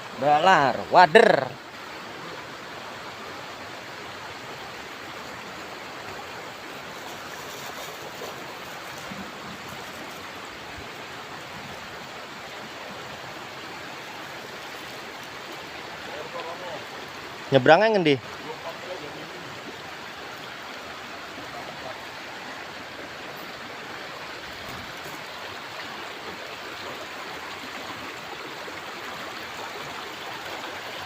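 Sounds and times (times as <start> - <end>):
river flowing over stones: 0.0 - 31.0.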